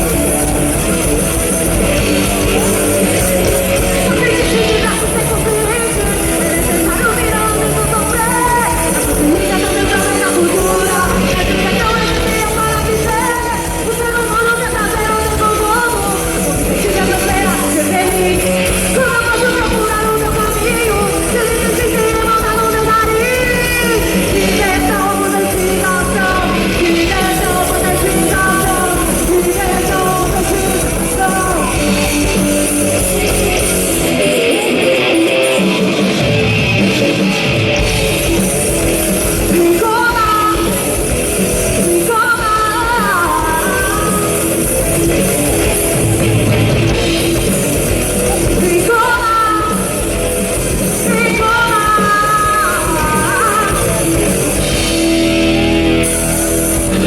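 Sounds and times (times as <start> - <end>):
live rock band playing: 0.0 - 57.0
woman singing: 0.2 - 35.2, 39.2 - 45.6, 47.8 - 54.4.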